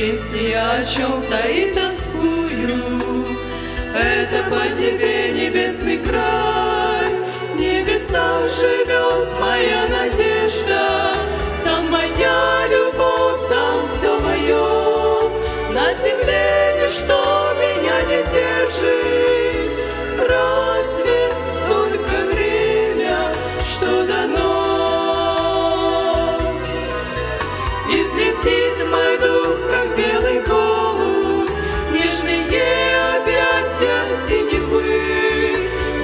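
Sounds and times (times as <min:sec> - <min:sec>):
women singing a hymn: 0:00.0 - 0:36.0.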